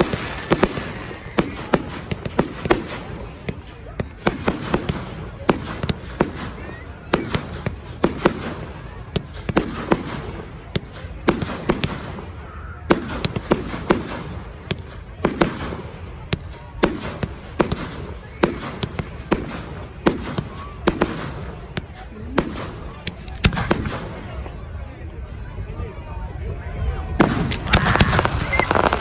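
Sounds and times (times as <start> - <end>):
fireworks bangs and pops: 0.0 - 24.8, 27.1 - 29.0.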